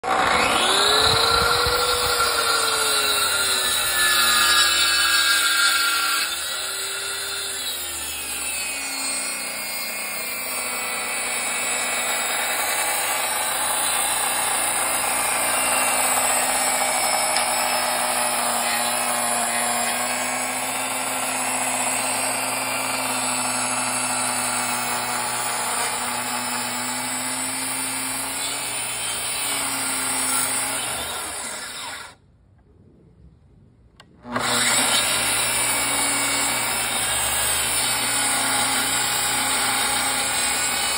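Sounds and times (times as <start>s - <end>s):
track saw cutting wood: 0.0s - 32.2s, 34.1s - 40.9s.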